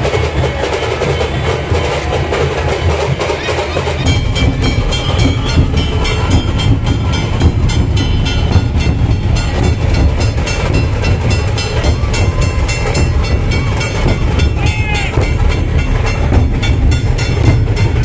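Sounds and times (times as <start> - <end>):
dhol drums beating fast: 0.0 - 18.0.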